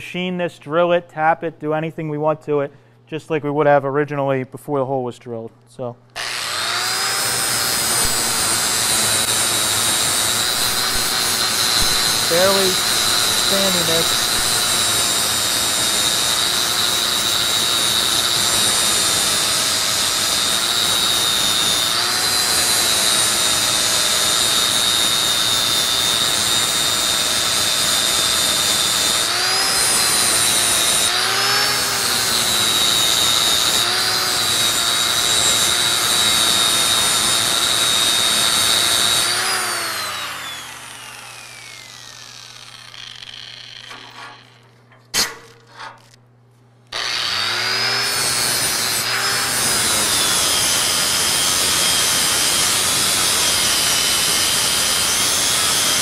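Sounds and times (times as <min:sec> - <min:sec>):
angle grinder sanding metal: 0:06.2 - 0:44.6, 0:47.0 - 0:56.0.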